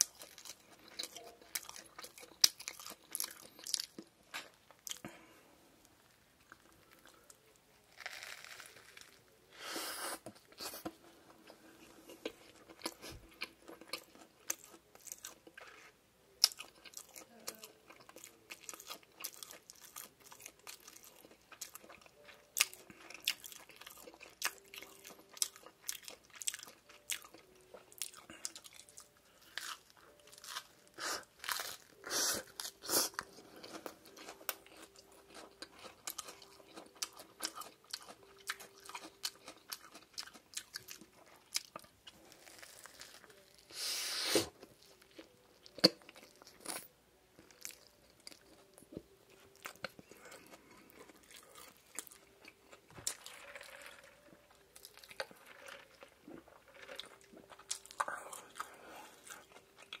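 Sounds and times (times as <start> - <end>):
biting and chewing burger: 0.0 - 5.3, 6.4 - 9.3, 10.1 - 43.8, 44.5 - 60.0.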